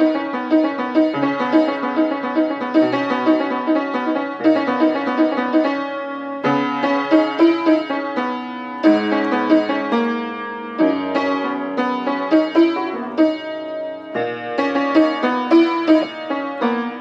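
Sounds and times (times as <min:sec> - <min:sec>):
piano playing: 0:00.0 - 0:17.0.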